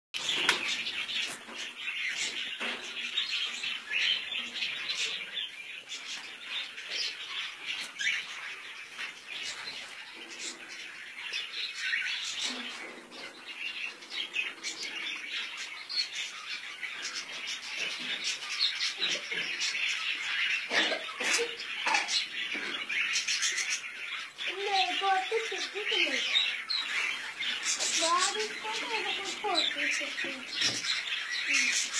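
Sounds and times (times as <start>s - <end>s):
many birds chirping: 0.1s - 31.9s.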